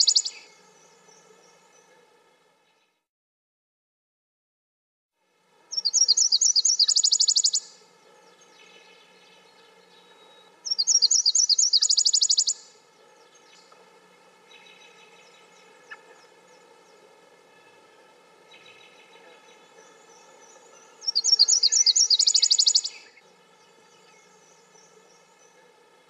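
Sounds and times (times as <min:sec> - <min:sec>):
bird song with trill: 0:00.0 - 0:03.0, 0:05.7 - 0:26.0
faint bird song: 0:00.0 - 0:03.1, 0:05.2 - 0:26.0.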